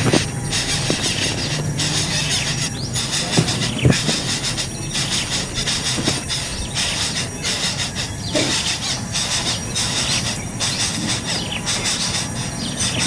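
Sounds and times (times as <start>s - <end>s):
nestling birds begging calls: 0.0s - 13.0s.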